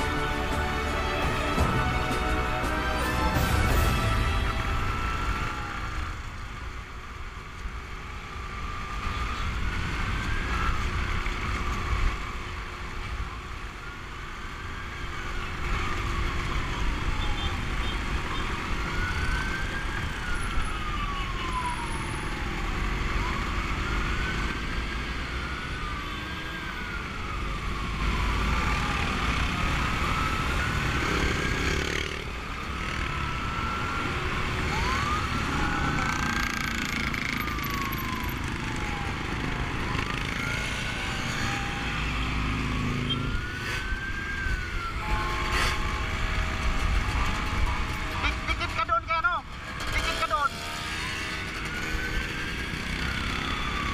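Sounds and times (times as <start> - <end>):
siren wailing: 0.0 - 6.4, 8.2 - 53.9
motorcycle engines rumbling: 7.8 - 53.9.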